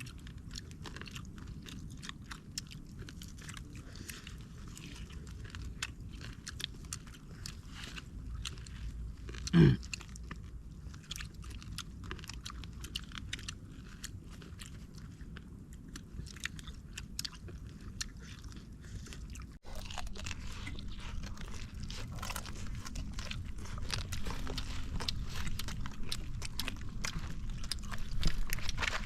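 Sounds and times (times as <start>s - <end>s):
chewing and crunching: 0.0s - 29.0s.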